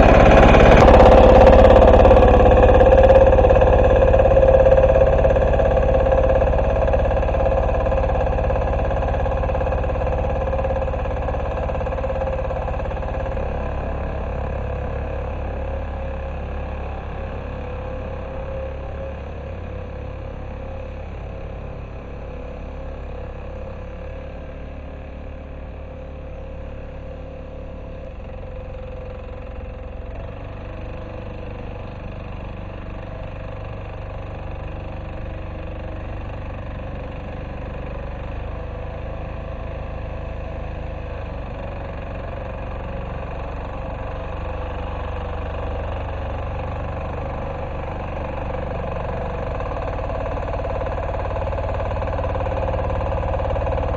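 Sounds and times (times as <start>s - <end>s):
walk-behind tractor diesel engine: 0.0s - 53.9s.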